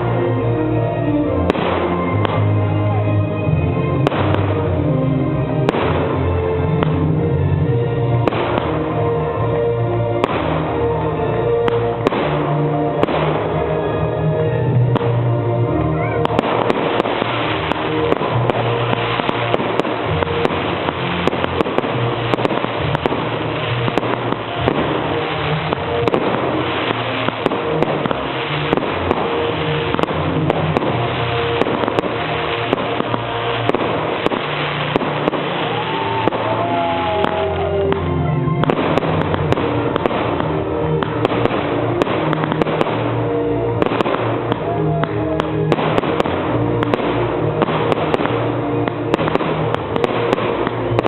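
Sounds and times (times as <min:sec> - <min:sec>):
fireworks bangs and crackles: 0:00.0 - 0:51.0
music playing: 0:00.0 - 0:51.0.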